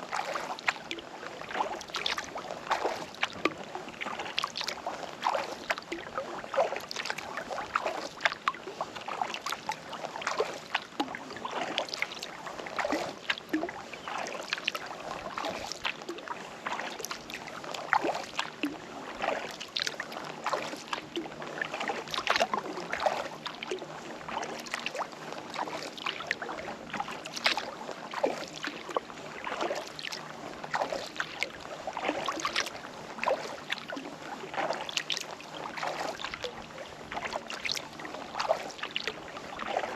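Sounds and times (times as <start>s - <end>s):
water dripping off paddle: 0.1s - 39.8s
paddle splashing into water: 0.1s - 39.9s.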